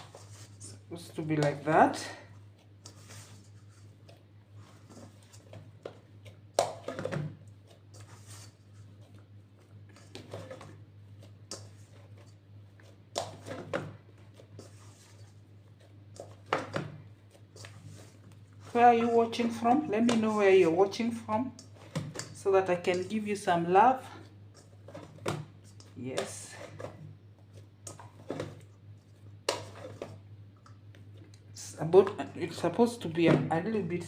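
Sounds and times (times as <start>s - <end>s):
dough squishing and slapping: 0.0s - 34.0s.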